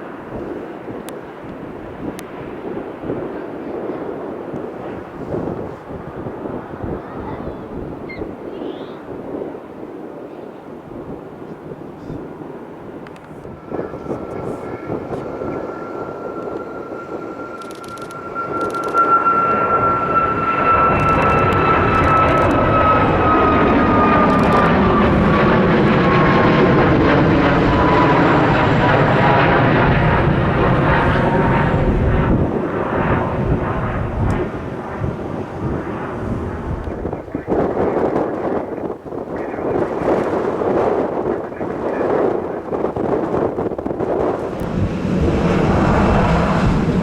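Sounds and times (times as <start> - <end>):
jet engines passing by: 0.0 - 47.0.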